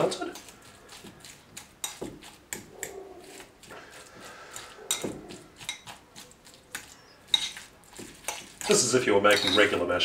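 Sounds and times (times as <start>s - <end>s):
utensil mashing potato in bowl: 0.0s - 10.0s.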